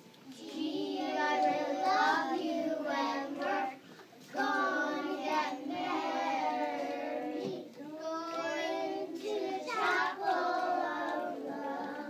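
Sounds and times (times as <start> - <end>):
children singing in unison: 0.3 - 12.0.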